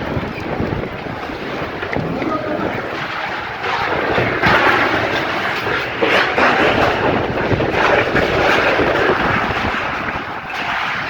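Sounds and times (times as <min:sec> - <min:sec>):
strong wind gusts buffeting microphone: 0:00.0 - 0:11.0.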